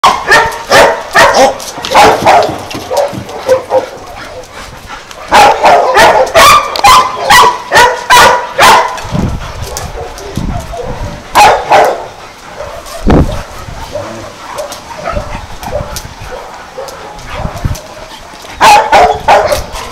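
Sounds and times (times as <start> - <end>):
dogs barking and yipping: 0.0 - 19.9.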